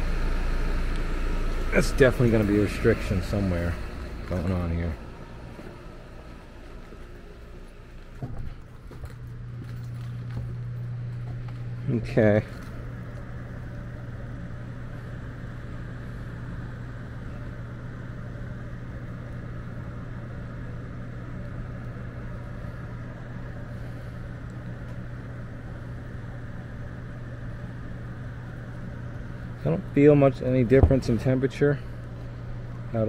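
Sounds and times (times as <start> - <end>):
air handler blower running: 0.0 - 33.0.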